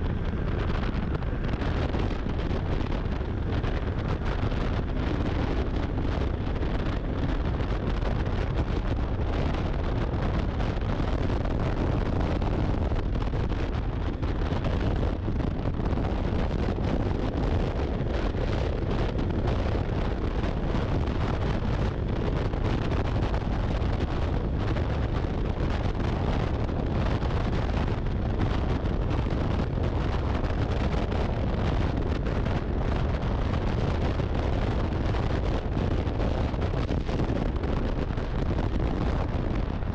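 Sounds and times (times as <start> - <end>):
snowmobile engine drone: 0.0 - 39.9
wind buffeting microphone: 0.0 - 39.9.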